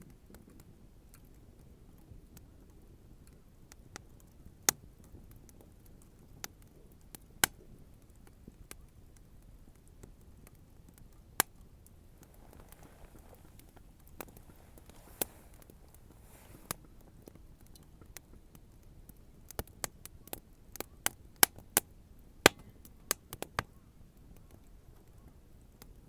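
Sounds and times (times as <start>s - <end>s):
bonfire crackling and popping: 0.1s - 26.0s.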